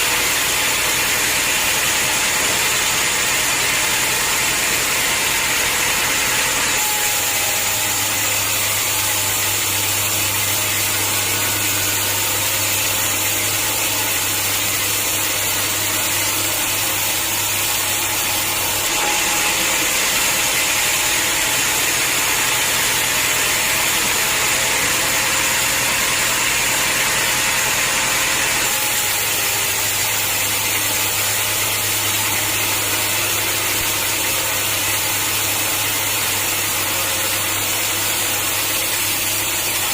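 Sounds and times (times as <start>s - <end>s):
saw hissing through logs: 0.0s - 39.9s.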